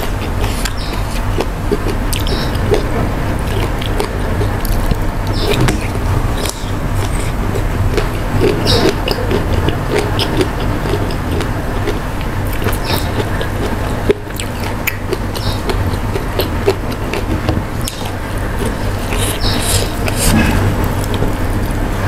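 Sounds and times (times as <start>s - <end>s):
wet mouth clicks: 0.0s - 21.8s
chewing food: 0.0s - 22.0s
low hum: 0.0s - 22.0s.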